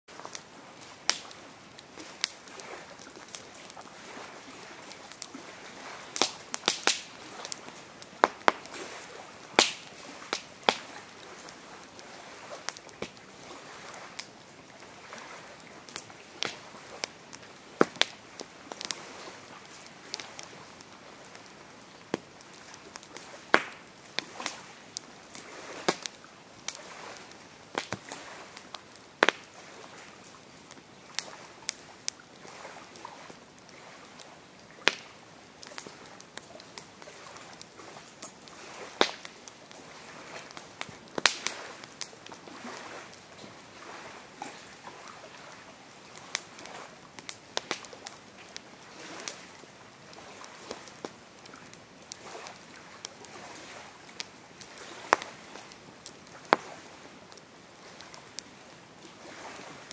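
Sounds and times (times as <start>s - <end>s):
campfire crackling and popping: 0.1s - 59.9s.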